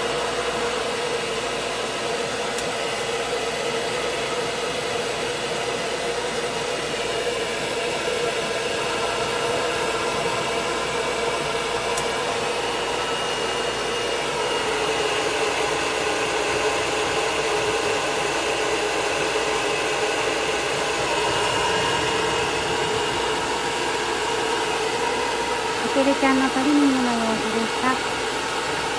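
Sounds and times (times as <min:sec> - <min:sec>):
hair dryer running: 0:00.0 - 0:28.9.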